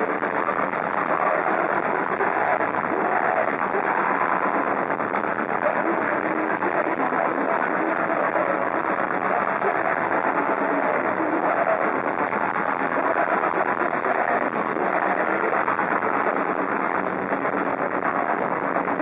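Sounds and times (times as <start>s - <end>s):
metal band playing live: 0.0s - 19.0s.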